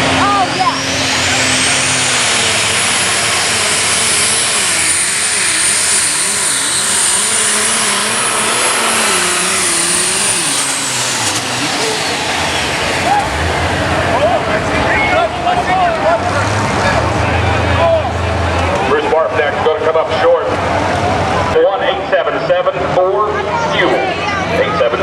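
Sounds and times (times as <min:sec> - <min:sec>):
tractor engine under load: 0:00.0 - 0:21.8
turbocharger whine: 0:00.0 - 0:25.0.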